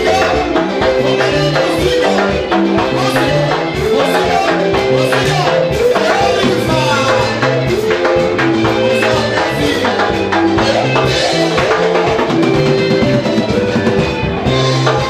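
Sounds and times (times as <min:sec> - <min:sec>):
bass: 0:00.0 - 0:15.0
keyboard chords: 0:00.0 - 0:15.0.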